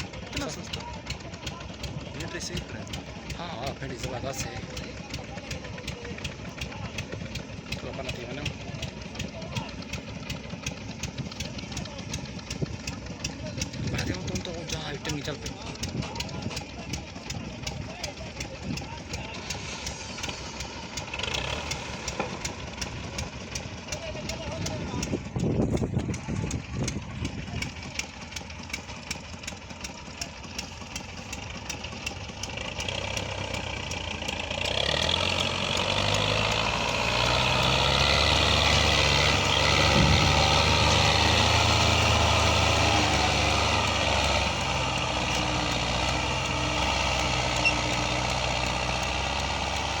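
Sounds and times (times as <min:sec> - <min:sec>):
engine running with fast ticking: 0:00.0 - 0:50.0.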